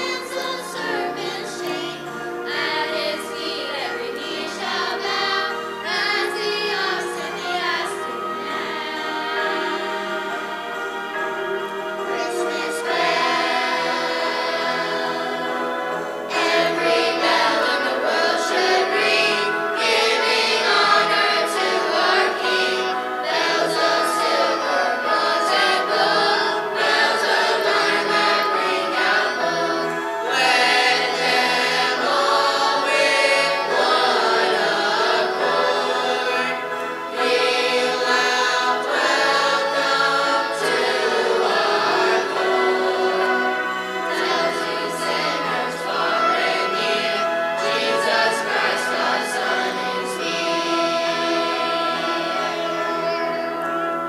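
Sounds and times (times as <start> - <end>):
choir singing: 0.0 - 54.0
musical accompaniment: 0.0 - 54.0.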